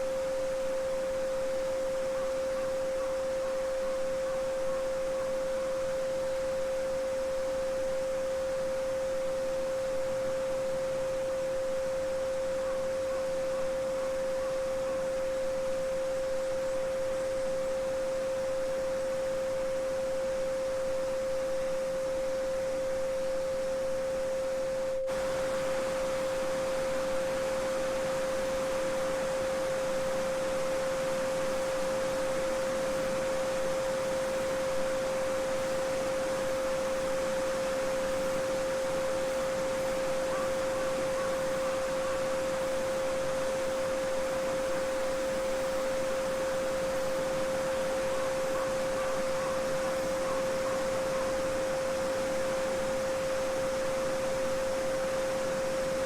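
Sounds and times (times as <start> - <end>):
steady sine tone: 0.0 - 56.0.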